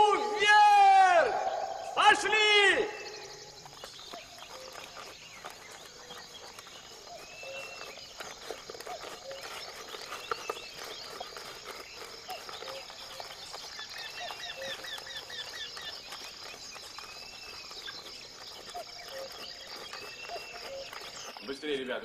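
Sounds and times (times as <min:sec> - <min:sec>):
birds calling and singing: 0:00.0 - 0:22.0
repeated bird chirping: 0:00.9 - 0:22.0.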